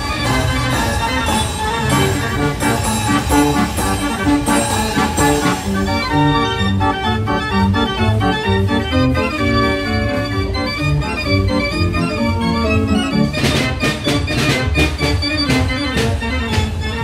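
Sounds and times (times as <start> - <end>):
fairground organ playing: 0.0 - 17.0.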